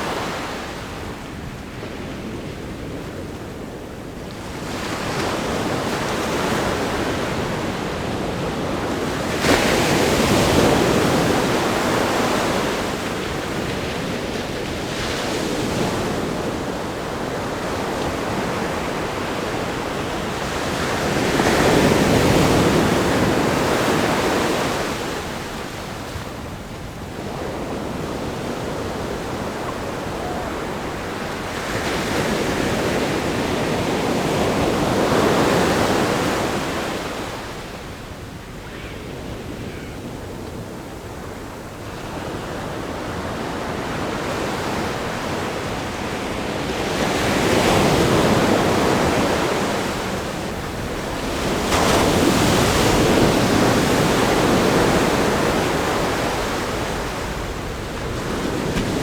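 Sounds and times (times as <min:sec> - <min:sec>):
ocean waves breaking: 0:04.6 - 0:37.8, 0:42.6 - 0:59.0.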